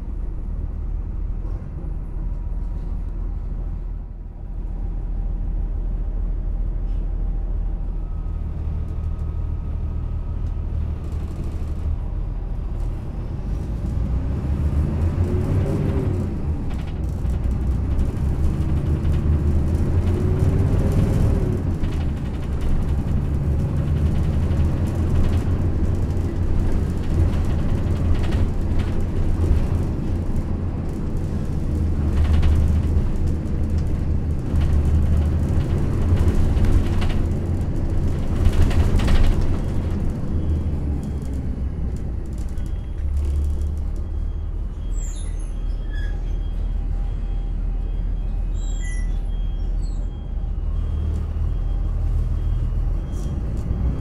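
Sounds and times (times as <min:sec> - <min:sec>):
bus body rattling and knocking: 0:00.0 - 0:54.0
bus drivetrain whine: 0:00.0 - 0:54.0.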